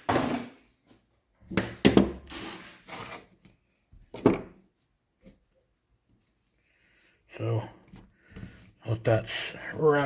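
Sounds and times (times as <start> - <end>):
plastic parts and rag handled: 0.8 - 10.0.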